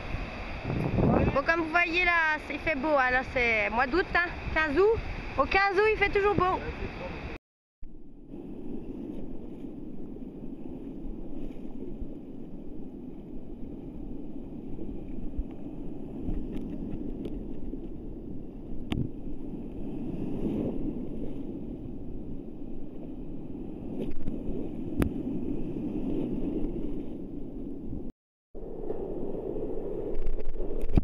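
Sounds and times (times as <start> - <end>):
surf rushing and sloshing: 0.0 - 7.4, 8.3 - 28.1
wind on microphone: 0.0 - 7.4, 8.0 - 31.0.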